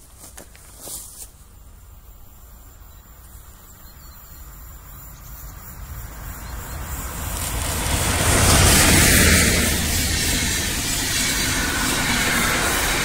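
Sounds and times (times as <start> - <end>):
train on rails: 0.0 - 13.0
train rumble: 0.0 - 13.0.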